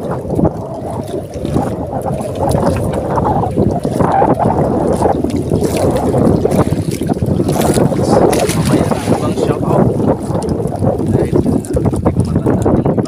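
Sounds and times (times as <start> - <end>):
net pulled aboard by hand: 0.0 - 13.0
water lapping against boat: 0.0 - 13.0
wind buffeting microphone: 0.0 - 13.0.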